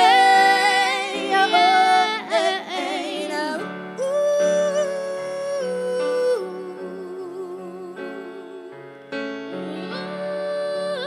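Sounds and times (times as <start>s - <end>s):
women singing with vibrato: 0.0s - 8.9s, 9.5s - 11.0s
piano accompaniment: 0.0s - 11.0s.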